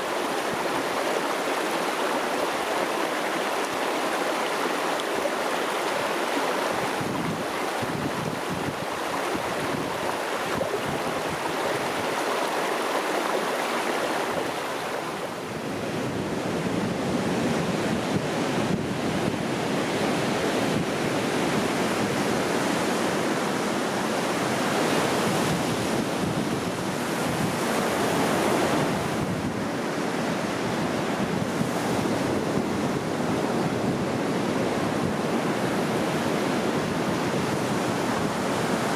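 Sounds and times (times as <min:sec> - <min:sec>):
running stream: 0:00.0 - 0:38.9
wind: 0:00.0 - 0:38.9.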